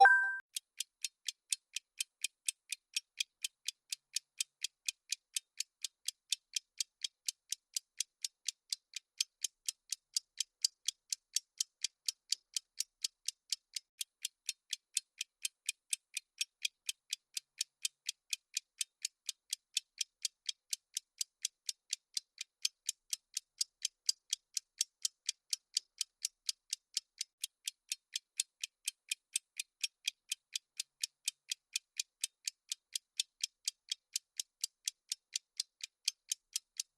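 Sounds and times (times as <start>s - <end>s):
rapid high-pitched clock ticks: 0.0s - 36.9s.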